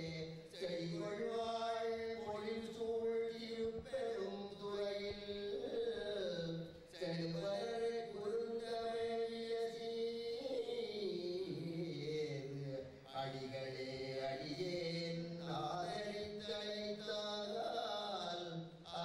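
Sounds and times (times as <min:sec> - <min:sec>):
mantras chanted in held phrases: 0:00.0 - 0:19.0.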